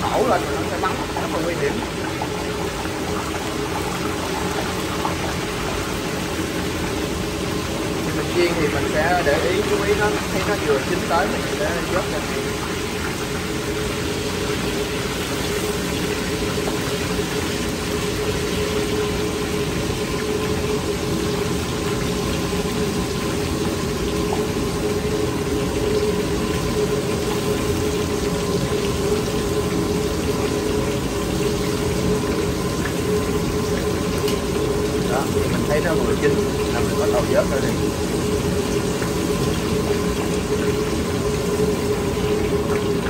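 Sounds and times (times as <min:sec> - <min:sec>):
gas burner roaring: 0:00.0 - 0:43.0
oil bubbling and sizzling: 0:00.0 - 0:43.0.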